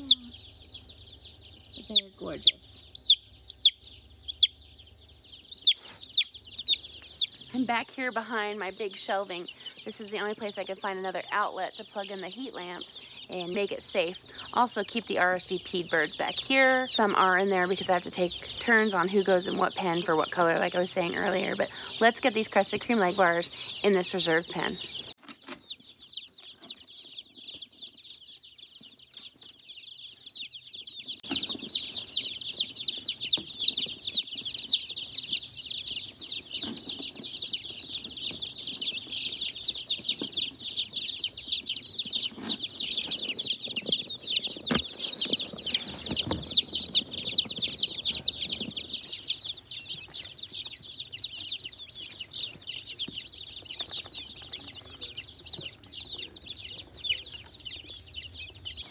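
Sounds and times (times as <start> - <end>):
baby chicks peeping: 0.0 - 58.9.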